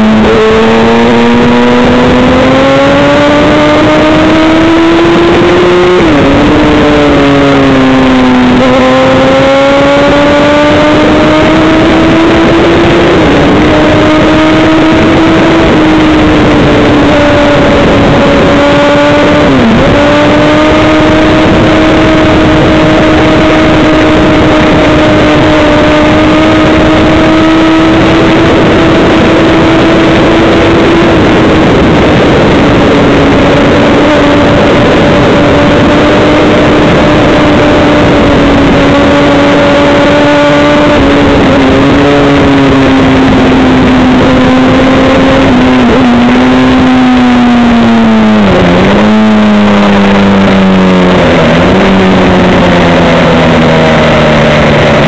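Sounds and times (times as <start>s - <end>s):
motorcycle engine at high revs: 0.0s - 55.0s
wind rush on microphone: 0.0s - 55.0s.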